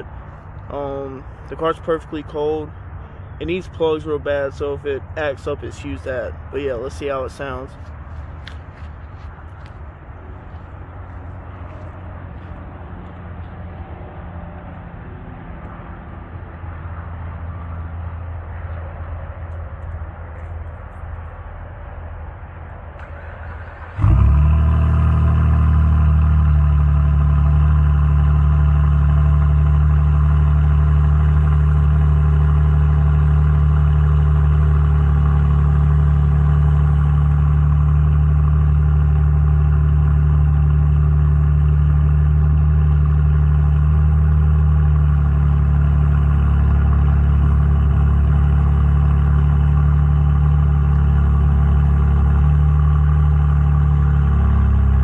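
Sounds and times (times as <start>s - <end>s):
car engine cold start and idle: 0.0s - 13.5s, 15.6s - 55.0s.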